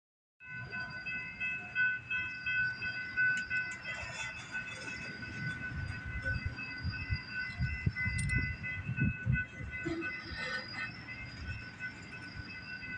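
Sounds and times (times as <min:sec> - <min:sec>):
crossing warning bell ringing: 0:00.4 - 0:12.9.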